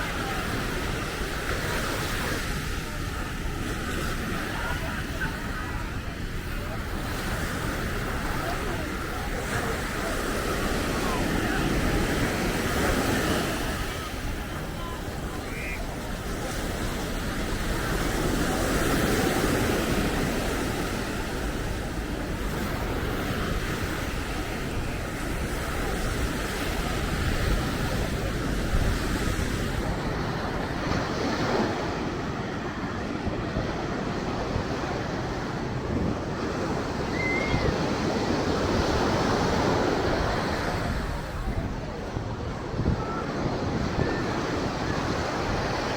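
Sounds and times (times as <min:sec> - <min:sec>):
ocean surf breaking: 0:00.0 - 0:45.9
wind buffeting microphone: 0:00.0 - 0:45.9.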